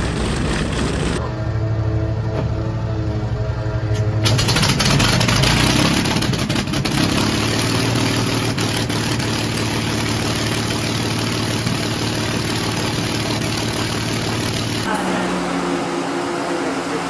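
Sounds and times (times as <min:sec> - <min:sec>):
aircraft engine idling: 0:00.0 - 0:17.0.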